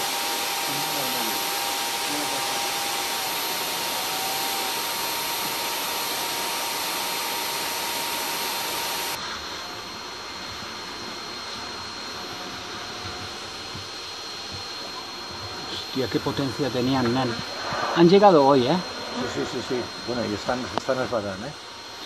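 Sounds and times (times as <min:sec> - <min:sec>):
vacuum running: 0:00.0 - 0:22.0.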